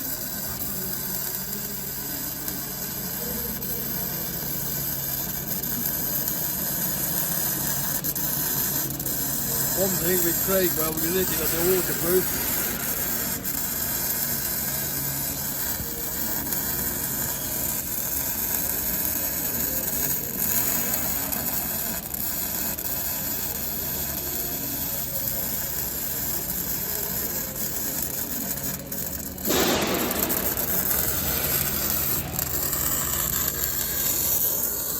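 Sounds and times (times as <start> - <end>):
welding arc hissing and crackling: 0.0 - 34.9.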